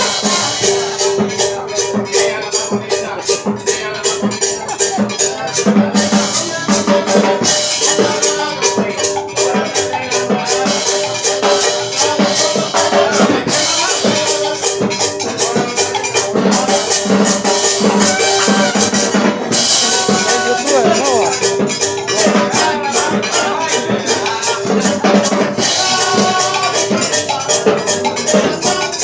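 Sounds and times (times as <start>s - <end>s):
band playing dance music: 0.0s - 29.0s
shaken percussion: 0.0s - 29.0s.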